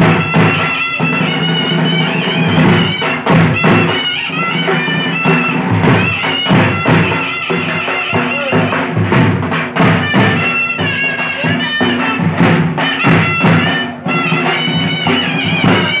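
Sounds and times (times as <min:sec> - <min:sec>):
drums beating in rhythm: 0:00.0 - 0:16.0
reedy wind instrument melody: 0:00.0 - 0:16.0.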